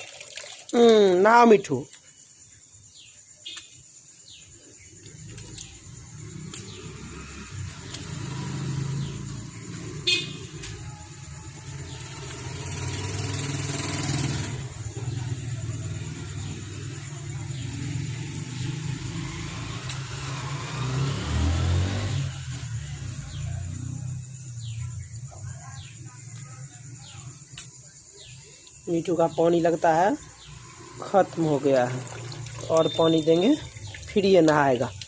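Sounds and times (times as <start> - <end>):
road traffic rumble: 3.0 - 35.0.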